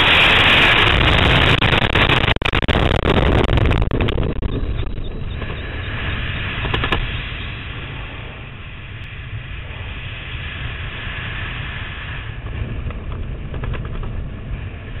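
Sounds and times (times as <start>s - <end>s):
heavy low rumble: 0.0s - 15.0s
wind rushing over microphone: 0.0s - 15.0s.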